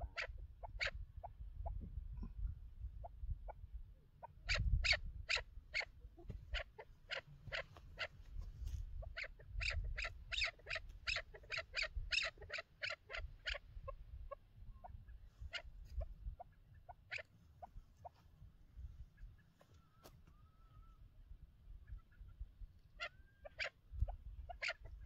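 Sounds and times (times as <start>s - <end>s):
partridge clucking calls: 0.0s - 1.9s, 3.0s - 18.3s, 19.0s - 21.0s, 21.8s - 25.0s.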